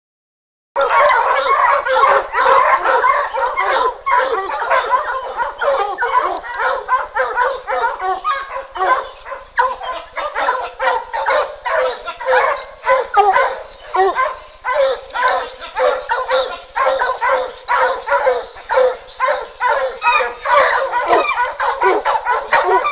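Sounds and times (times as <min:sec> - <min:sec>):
hounds barking and bawling: 0:00.8 - 0:22.9.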